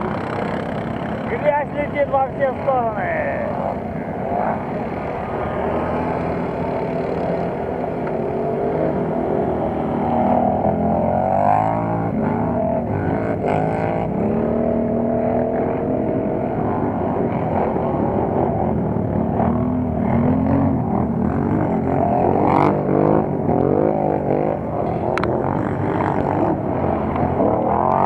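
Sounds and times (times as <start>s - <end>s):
atv engines revving: 0.0s - 28.0s.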